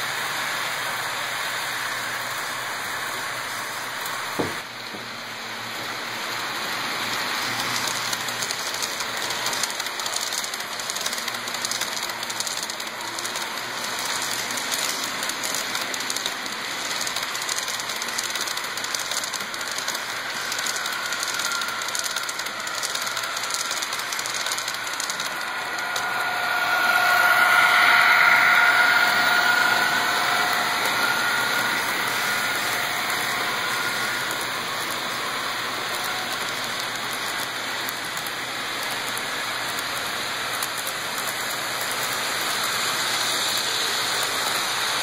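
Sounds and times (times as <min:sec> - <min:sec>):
model locomotive hum: 0:00.0 - 0:45.0
model train wheels clicking: 0:05.7 - 0:45.0.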